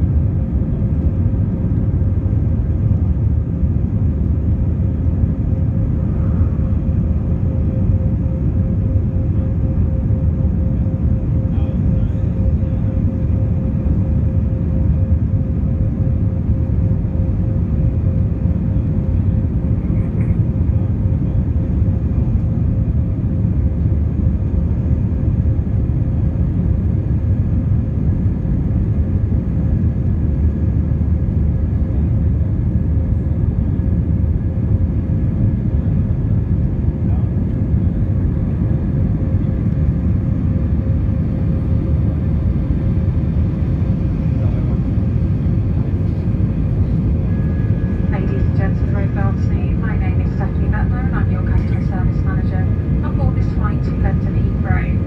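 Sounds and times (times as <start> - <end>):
jet engines droning: 0.0 - 55.0.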